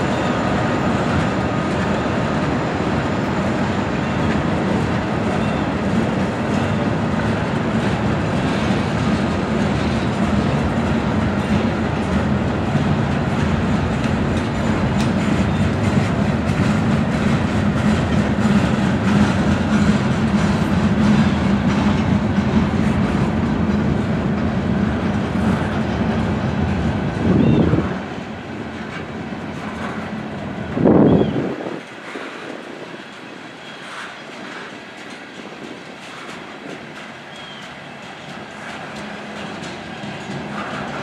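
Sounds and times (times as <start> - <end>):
train wheels clickety-clack: 0.0 - 41.0.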